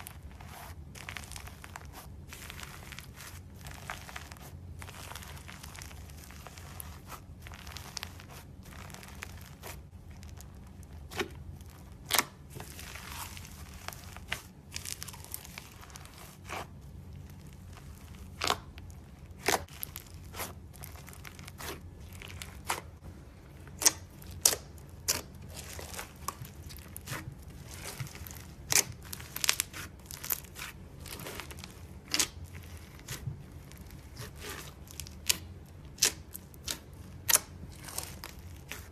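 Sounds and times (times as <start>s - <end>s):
crunchy slime crackling and popping: 0.0s - 38.9s
slime crinkling: 0.0s - 38.9s.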